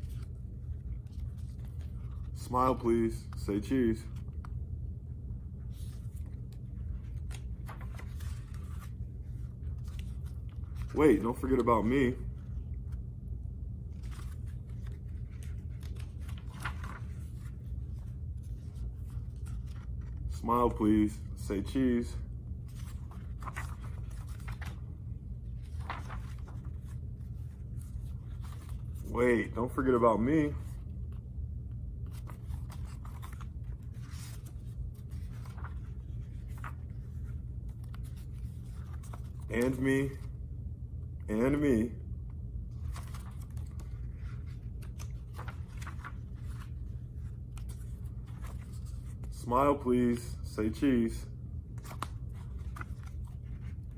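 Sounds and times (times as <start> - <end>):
book pages rustling: 0.0 - 4.7, 5.4 - 13.1, 13.8 - 22.0, 22.6 - 40.4, 42.6 - 50.2, 51.6 - 53.9
low hum: 0.0 - 20.5, 22.2 - 49.4.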